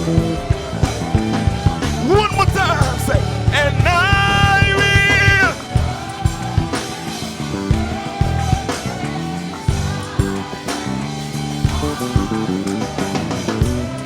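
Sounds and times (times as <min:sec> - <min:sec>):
gospel band playing: 0:00.0 - 0:14.0.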